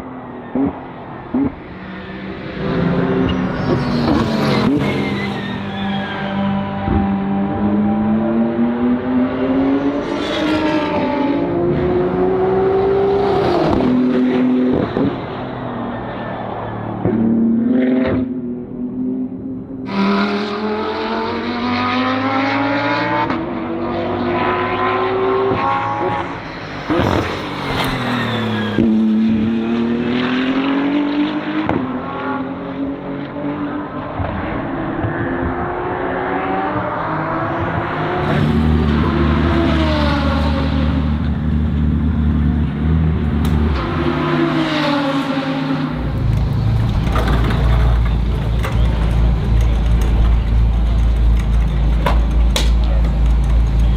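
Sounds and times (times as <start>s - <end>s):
race car engine accelerating: 0.5s - 53.9s.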